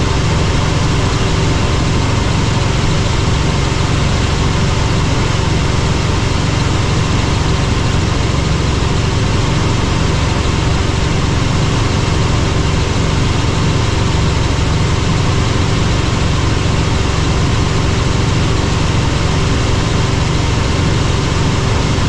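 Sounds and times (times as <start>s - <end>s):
faint engine whine: 0.0s - 22.0s
helicopter rotor drone: 0.0s - 22.0s.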